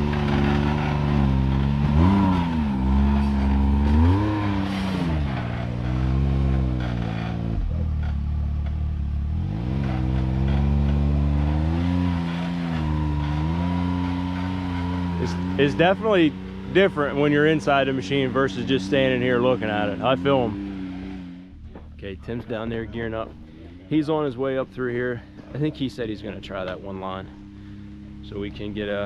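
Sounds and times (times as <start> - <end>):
engine revving in short blips: 0.0 - 24.0.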